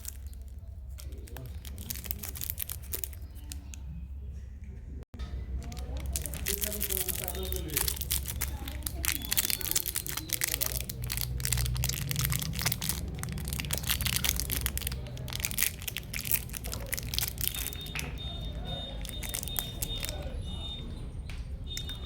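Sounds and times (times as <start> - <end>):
packaging crackling and crinkling: 0.0 - 4.0, 5.4 - 20.3.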